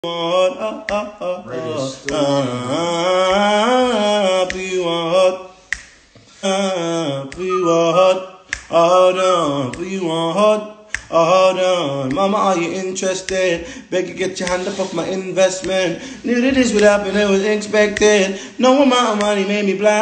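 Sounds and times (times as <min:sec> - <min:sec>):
man singing unaccompanied: 0:00.0 - 0:05.7, 0:06.4 - 0:20.0.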